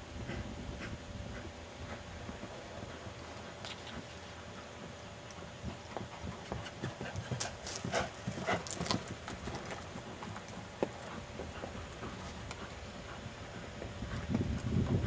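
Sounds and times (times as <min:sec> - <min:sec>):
horse hoofbeats on dry ground: 0:00.2 - 0:15.0.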